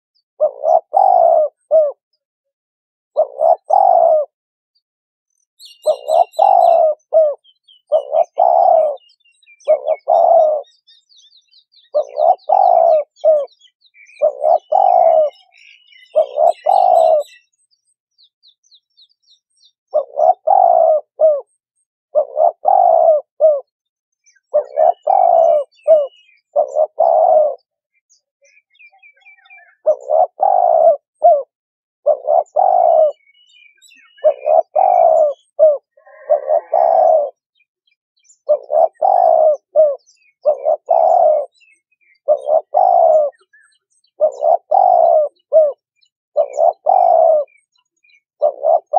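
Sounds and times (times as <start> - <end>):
small birds chirping: 0.2 - 2.2, 3.2 - 4.4, 5.3 - 48.9
dove cooing: 0.4 - 2.0, 3.2 - 4.4, 5.6 - 11.0, 11.7 - 17.5, 19.9 - 23.7, 24.3 - 27.8, 28.9 - 37.5, 38.4 - 48.9.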